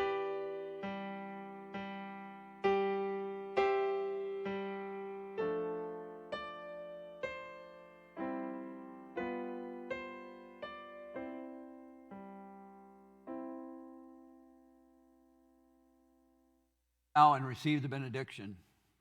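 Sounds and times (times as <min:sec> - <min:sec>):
gentle piano chords: 0:00.0 - 0:16.6.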